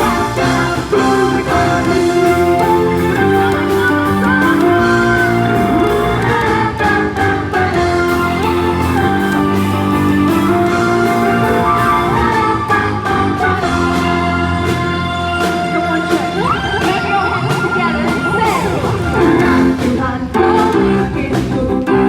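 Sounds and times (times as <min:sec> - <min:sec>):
steady beat: 0:00.0 - 0:20.9
digital keyboard chords and melody: 0:00.0 - 0:22.0.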